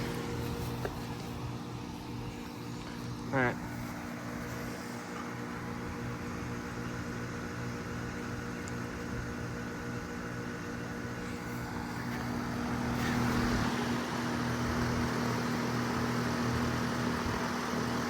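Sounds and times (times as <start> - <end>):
compressor hum: 0.0 - 18.0
fan air rushing: 0.0 - 18.0.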